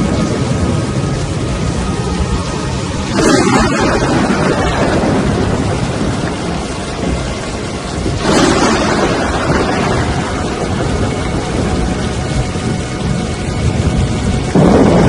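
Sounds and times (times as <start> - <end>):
wind and rain roaring: 0.0 - 15.0.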